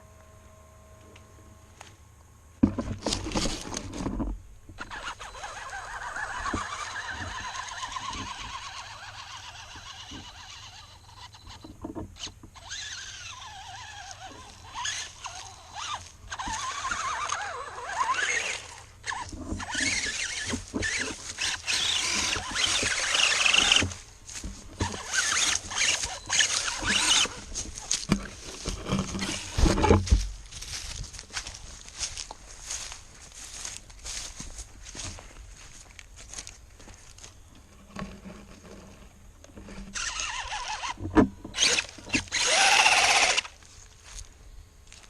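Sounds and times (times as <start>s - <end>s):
electric motor and gears whining: 0.0s - 44.3s
drivetrain clicks and rough noise: 2.6s - 43.6s.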